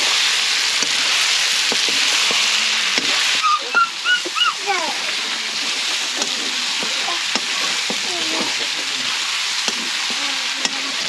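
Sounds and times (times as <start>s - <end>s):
curry sizzling in a wok: 0.0s - 11.0s.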